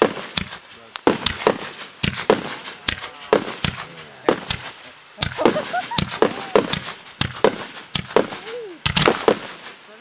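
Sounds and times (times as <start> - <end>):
fireworks bangs with echo: 0.0 - 10.0.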